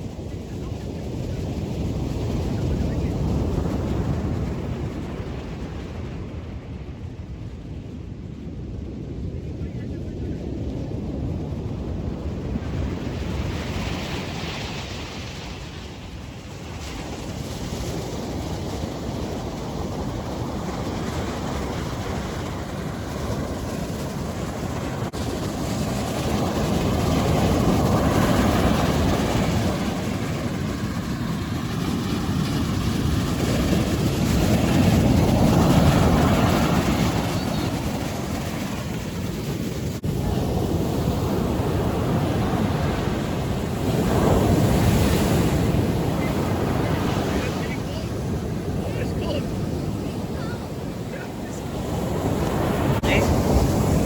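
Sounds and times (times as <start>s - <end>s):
waves breaking on a beach: 0.0s - 54.0s
wind rumbling on microphone: 0.0s - 54.0s.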